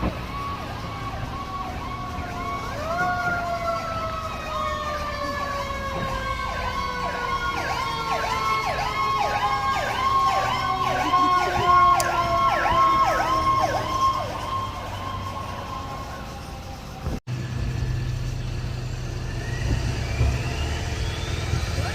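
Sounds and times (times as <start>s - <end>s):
electronic siren yelp: 0.0s - 17.2s, 19.3s - 21.9s
steady siren tone: 0.0s - 21.9s
truck engine noise: 0.0s - 21.9s.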